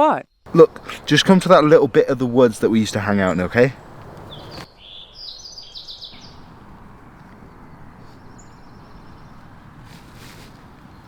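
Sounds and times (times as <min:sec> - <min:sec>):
bird chirping: 0:00.0 - 0:10.0
faint outdoor background noise: 0:00.0 - 0:11.0.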